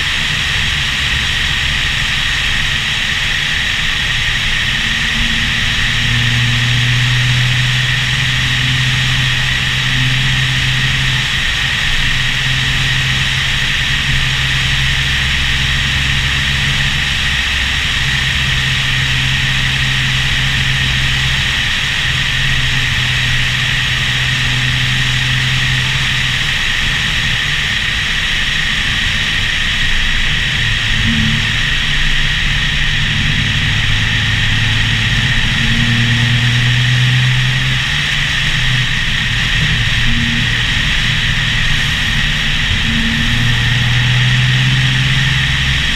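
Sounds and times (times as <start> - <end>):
car engine drone: 0.0 - 45.9.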